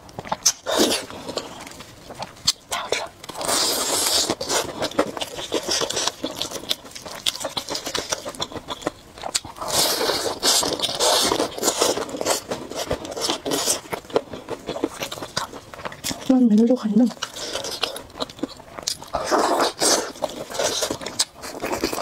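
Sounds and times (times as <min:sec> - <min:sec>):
chewing crispy chicken: 0:00.1 - 0:22.0.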